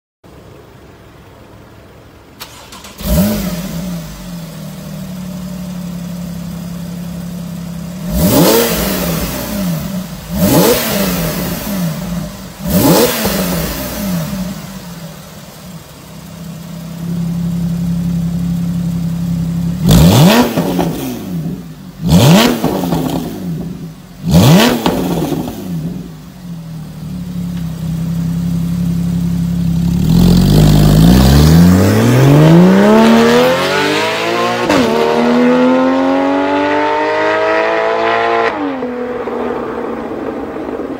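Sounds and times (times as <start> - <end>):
car engine idling and revving: 0.2 - 40.9.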